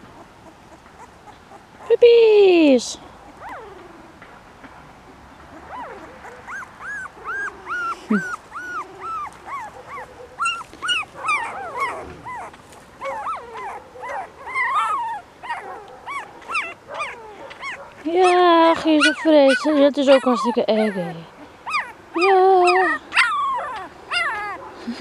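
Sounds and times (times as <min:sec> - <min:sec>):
puppies whimpering and crying: 0:00.0 - 0:02.1, 0:03.3 - 0:04.2, 0:05.5 - 0:25.0.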